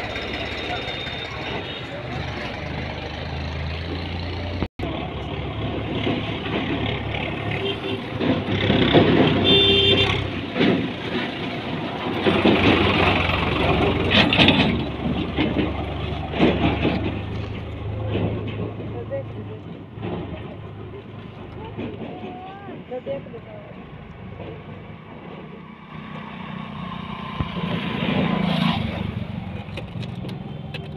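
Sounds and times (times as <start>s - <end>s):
traffic noise: 0.0s - 30.9s
vehicle engine humming: 0.0s - 30.9s.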